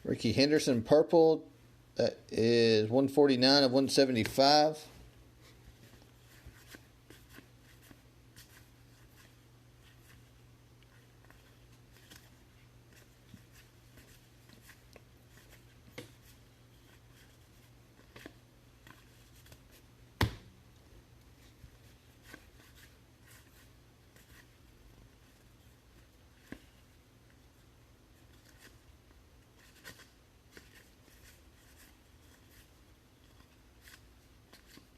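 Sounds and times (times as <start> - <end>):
trading cards handled on a table: 5.3 - 20.4, 21.2 - 34.9.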